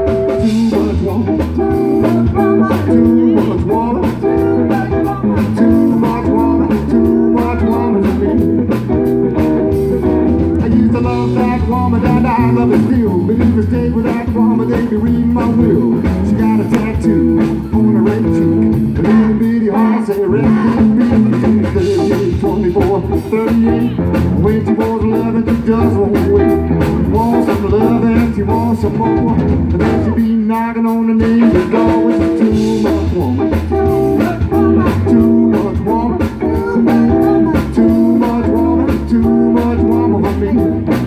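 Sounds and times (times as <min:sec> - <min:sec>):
bass line: 0:00.0 - 0:41.0
drums: 0:00.0 - 0:41.0
electric guitar: 0:00.0 - 0:41.0
live blues band: 0:00.0 - 0:41.0.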